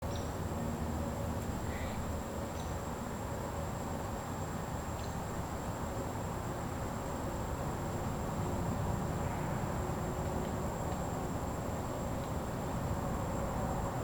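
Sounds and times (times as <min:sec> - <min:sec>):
wind rumbling through woods: 0:00.0 - 0:14.0.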